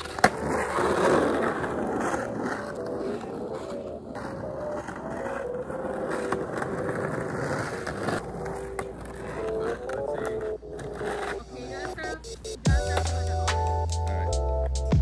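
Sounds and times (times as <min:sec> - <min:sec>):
roller-skate wheels rolling: 0:00.0 - 0:13.5
skateboard wheels rolling on asphalt: 0:00.0 - 0:14.2.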